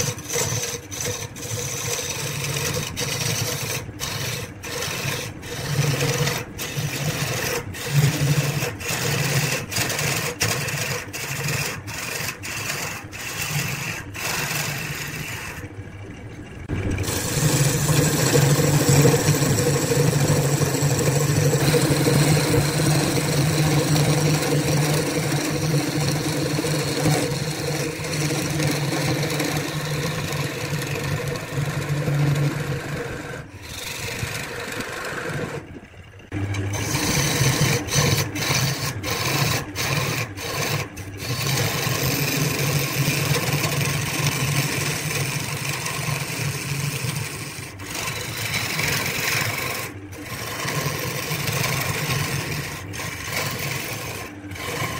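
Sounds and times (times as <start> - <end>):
tool rasping on spinning wood: 0.0 - 15.8, 16.6 - 54.9
wood lathe motor hum: 0.0 - 54.9.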